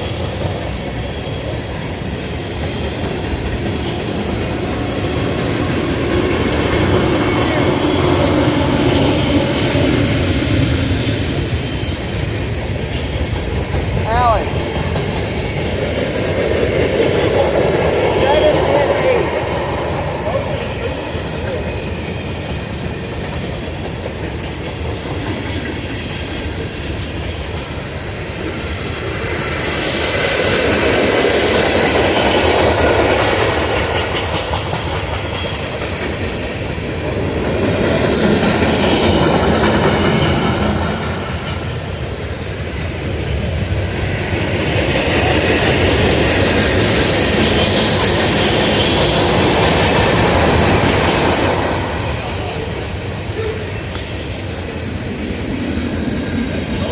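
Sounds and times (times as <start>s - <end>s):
freight train cars rolling: 0.0s - 56.9s.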